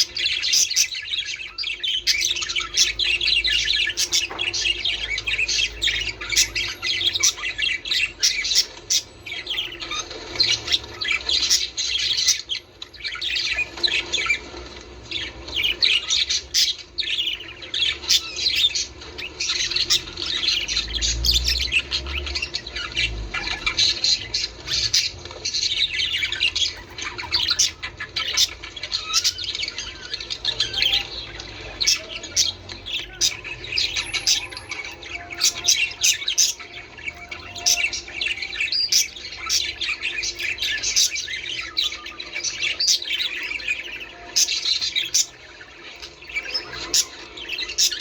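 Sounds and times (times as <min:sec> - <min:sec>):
budgerigars chattering: 0:00.0 - 0:48.0.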